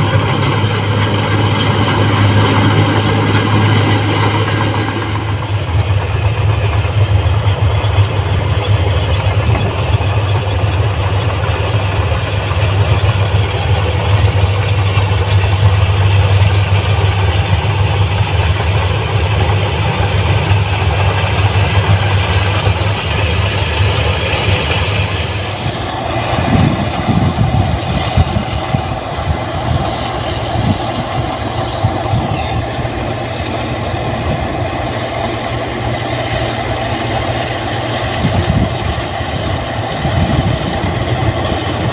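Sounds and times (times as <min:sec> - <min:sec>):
harvester engine low hum: 0:00.0 - 0:41.9.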